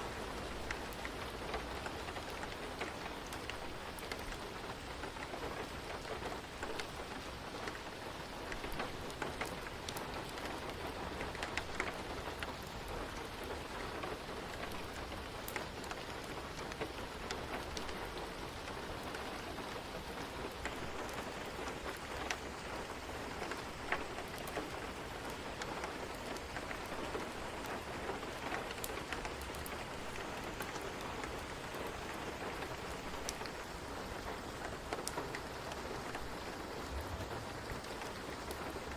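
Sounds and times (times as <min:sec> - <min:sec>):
rain hissing: 0:00.0 - 0:38.9
raindrops tapping on a surface: 0:00.0 - 0:38.9.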